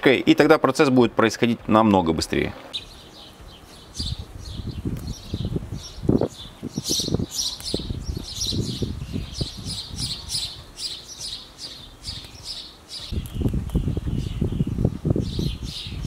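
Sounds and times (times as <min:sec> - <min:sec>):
low rustling of herbs: 0:01.7 - 0:16.0
small birds chirping: 0:02.7 - 0:16.0.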